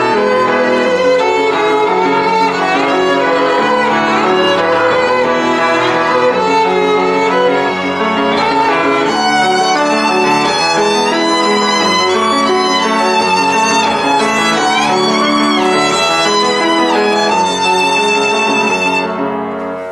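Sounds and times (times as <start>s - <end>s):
violin melody with sliding notes: 0.0s - 19.5s
sustained accompaniment: 0.0s - 19.9s.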